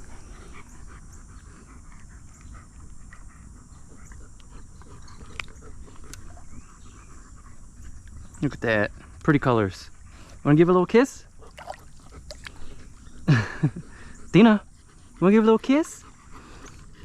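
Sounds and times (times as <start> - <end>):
dogs: 0.0 - 17.0.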